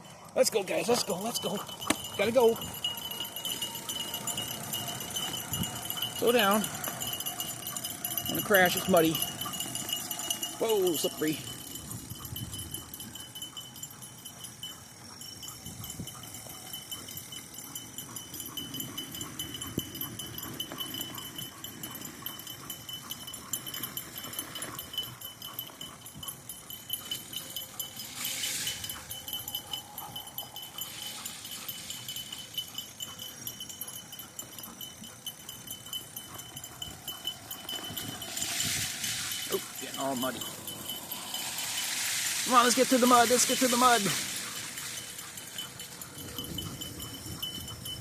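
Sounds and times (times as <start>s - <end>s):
dogs panting: 0.0s - 48.0s.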